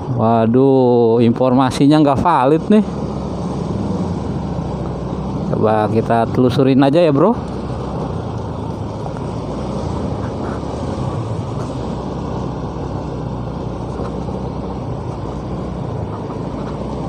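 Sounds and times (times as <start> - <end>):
motorcycle engine hum: 0.0 - 17.0
wind and road noise: 0.0 - 17.0.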